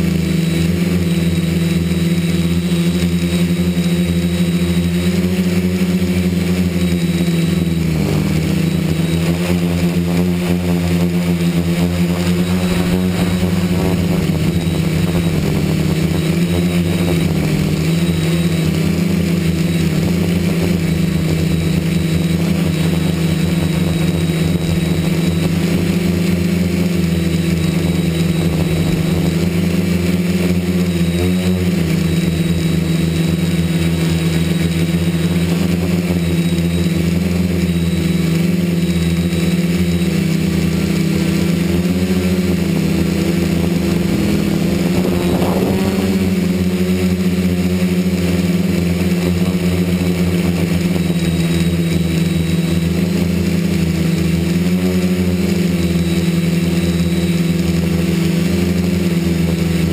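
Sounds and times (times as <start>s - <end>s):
drone motors humming: 0.0s - 59.9s.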